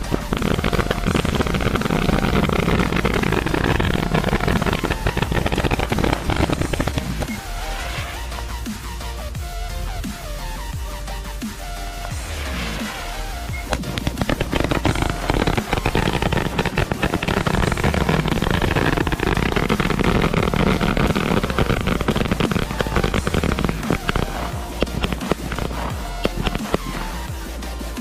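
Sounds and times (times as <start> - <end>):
firecrackers banging: 0.0 - 9.1, 11.9 - 27.4
music: 0.0 - 28.0.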